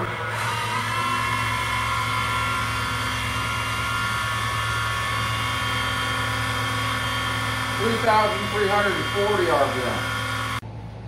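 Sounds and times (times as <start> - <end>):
milling machine spindle whine: 0.0 - 10.6.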